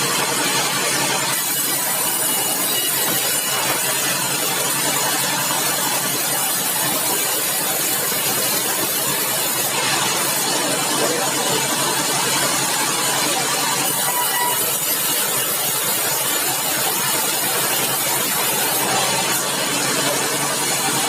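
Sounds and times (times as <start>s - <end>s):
sawmill machinery running: 0.0s - 21.0s.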